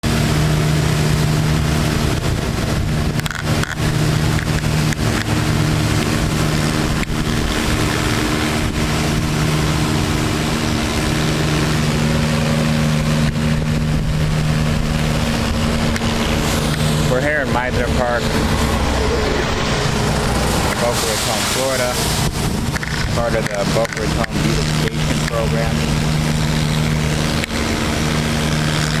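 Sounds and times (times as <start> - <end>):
diesel engine droning: 0.0 - 29.0
pressure washer hiss: 0.1 - 29.0.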